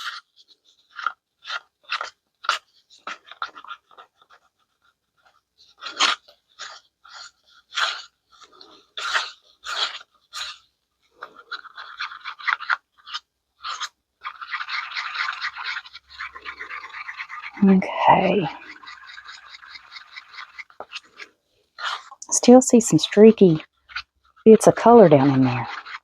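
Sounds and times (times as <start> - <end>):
stick scraping and stirring in cup: 0.0 - 26.0.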